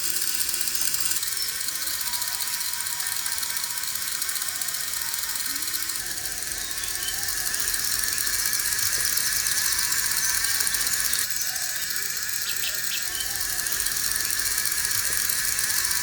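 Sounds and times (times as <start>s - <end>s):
gear rattle: 0.0s - 16.0s
small electric motor whirring: 0.0s - 16.0s.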